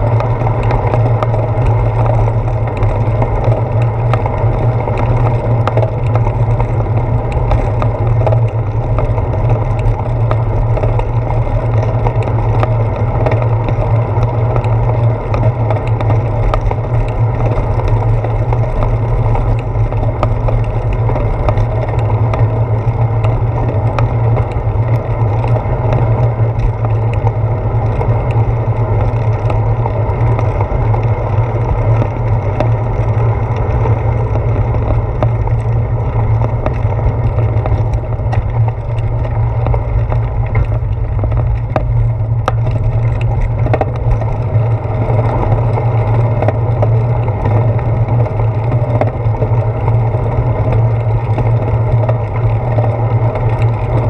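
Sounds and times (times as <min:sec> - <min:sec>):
bicycle rolling over pavement: 0:00.0 - 0:54.0
clicks and rattles over bumps: 0:00.0 - 0:54.0.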